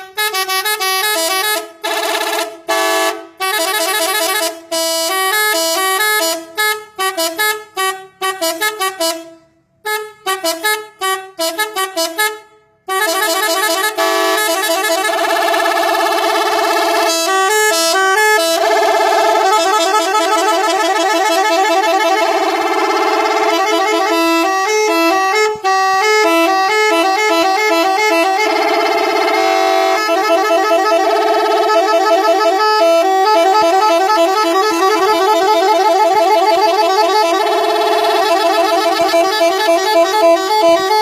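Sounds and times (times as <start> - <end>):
air horn tooting melodies: 0.0 - 41.0.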